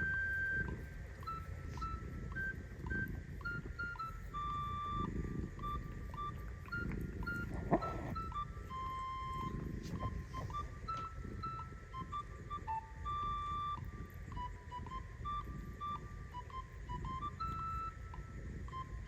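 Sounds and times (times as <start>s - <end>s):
electronic beeping melody: 0.0s - 19.0s.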